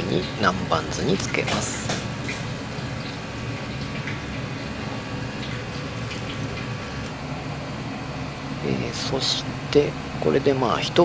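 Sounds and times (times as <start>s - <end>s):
fried fish fizzing in marinade: 0.0s - 11.0s.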